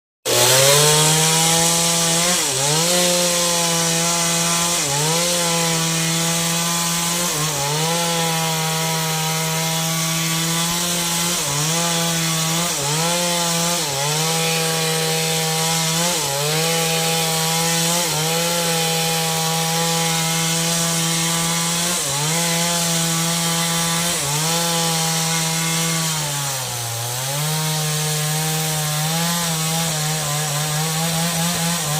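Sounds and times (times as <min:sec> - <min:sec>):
chainsaw cutting wood: 0:00.2 - 0:31.9.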